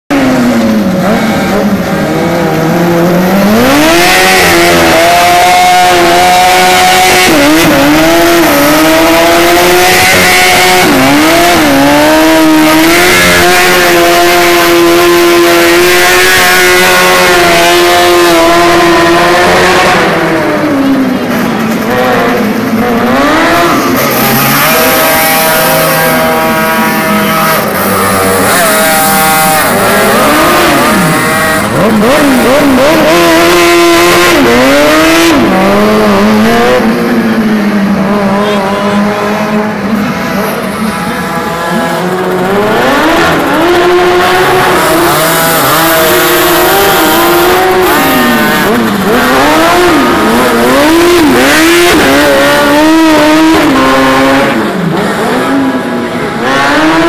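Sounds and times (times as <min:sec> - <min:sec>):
small engine revving hard: 0:00.2 - 0:57.0.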